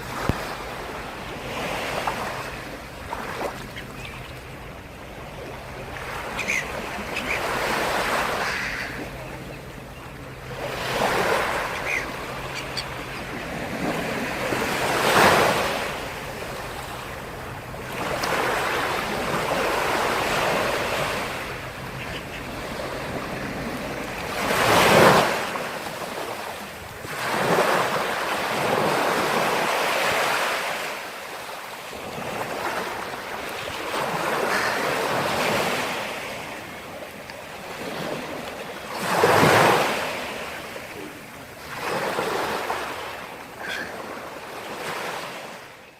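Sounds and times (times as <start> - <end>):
surf waves breaking on shore: 0.0 - 45.9.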